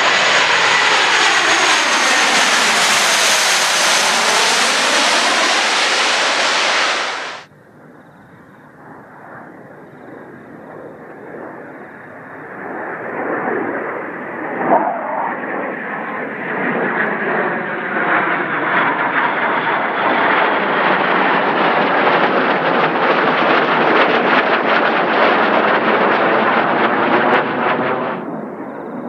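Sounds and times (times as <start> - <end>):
jet roar flying past: 0.0 - 7.5, 8.6 - 29.0.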